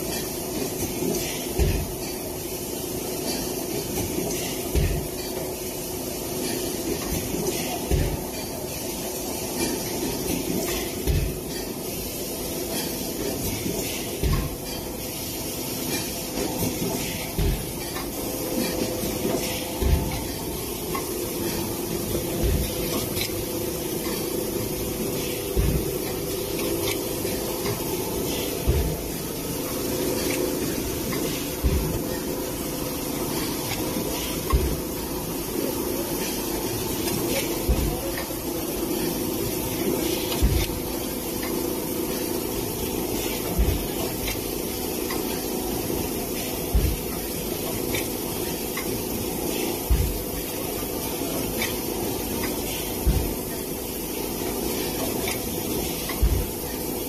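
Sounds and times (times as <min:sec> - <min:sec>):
machine humming and hissing: 0:00.0 - 0:57.0.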